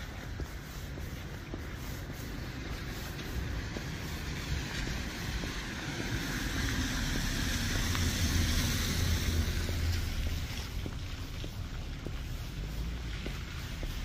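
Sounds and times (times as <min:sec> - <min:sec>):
car passing on wet street: 0:00.0 - 0:14.0.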